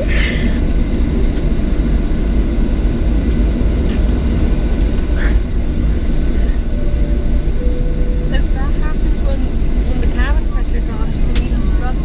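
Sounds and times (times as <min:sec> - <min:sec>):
faint engine whine: 0:00.0 - 0:12.0
jet engines rumbling in cabin: 0:00.0 - 0:12.0.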